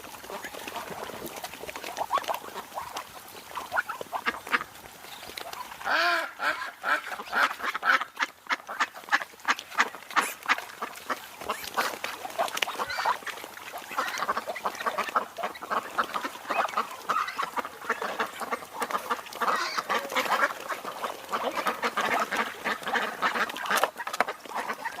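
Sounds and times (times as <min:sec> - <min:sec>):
ducks quacking: 0:00.2 - 0:04.8, 0:05.4 - 0:25.0.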